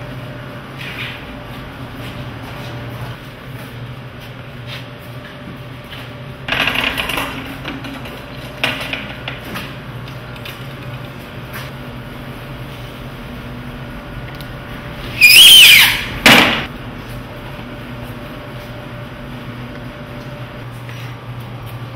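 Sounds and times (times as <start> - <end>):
steady low hum: 0.0 - 15.2, 16.0 - 21.9.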